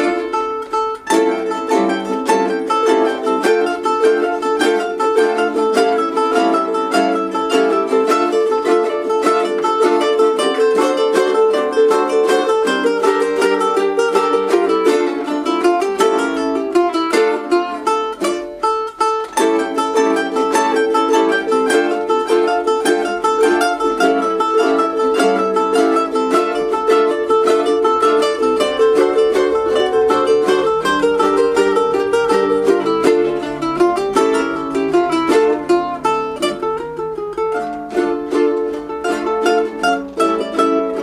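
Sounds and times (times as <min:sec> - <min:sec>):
ukuleles strumming: 0:00.0 - 0:41.0.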